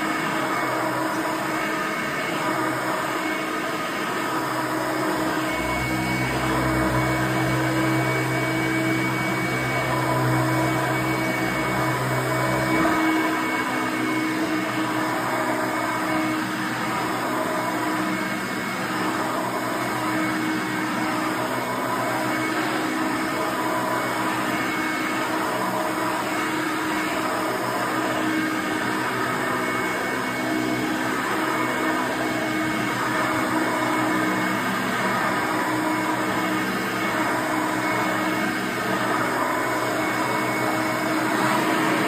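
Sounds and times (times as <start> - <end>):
vacuum cleaner running on carpet: 0.0 - 42.0.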